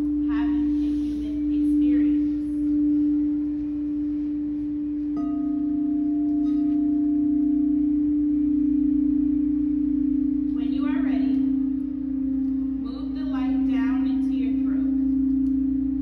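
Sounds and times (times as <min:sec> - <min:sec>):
second singing bowl tone: 0:00.0 - 0:16.0
singing bowl low tone: 0:00.0 - 0:16.0.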